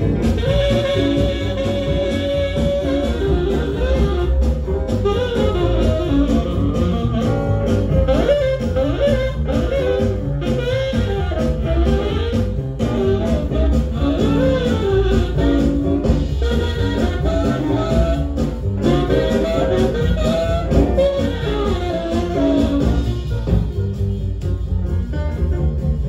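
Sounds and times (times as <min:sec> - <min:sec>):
swing jazz with tenor saxophone: 0:00.0 - 0:26.0.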